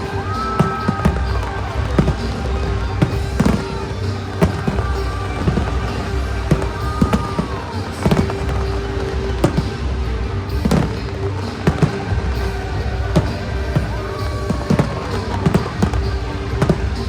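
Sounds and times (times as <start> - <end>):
fireworks bursting in bangs: 0.0 - 17.0
music: 0.0 - 17.0.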